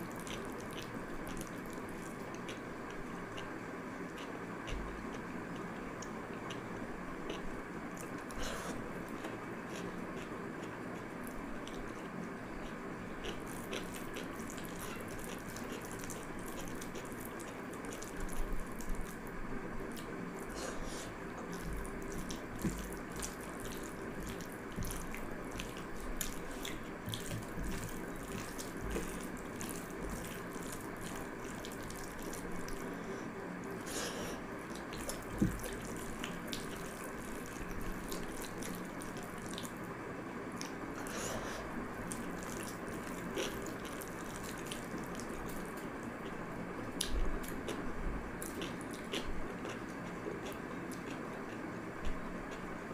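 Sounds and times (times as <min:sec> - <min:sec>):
steady background hum: 0:00.0 - 0:52.9.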